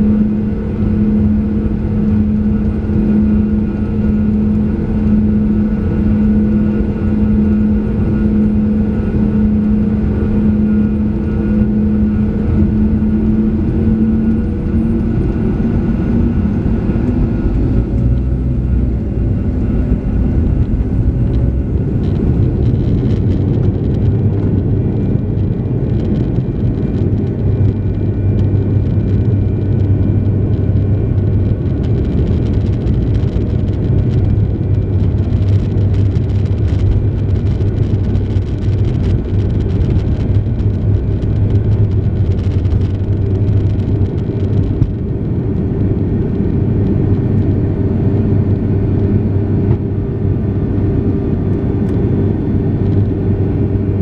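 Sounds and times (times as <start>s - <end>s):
jet engines humming: 0.0s - 54.0s.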